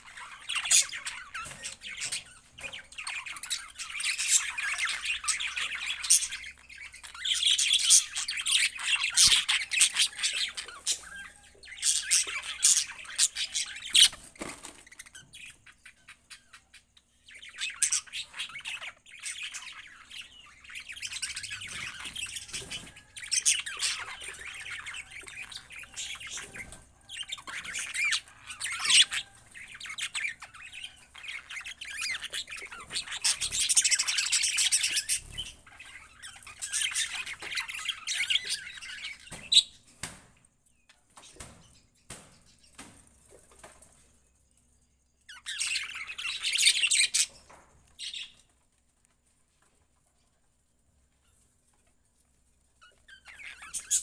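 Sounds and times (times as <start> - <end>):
budgerigars chattering and squawking: 0.0 - 40.0, 45.2 - 48.5, 52.8 - 54.0.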